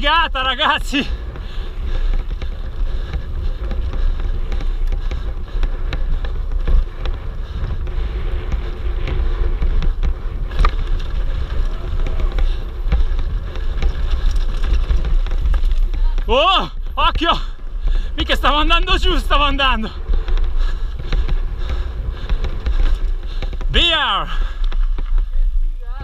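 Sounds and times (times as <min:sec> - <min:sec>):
bike rattling over bumps: 0:00.0 - 0:26.0
tyres on dirt trail: 0:00.0 - 0:26.0
wind buffeting microphone: 0:00.0 - 0:26.0.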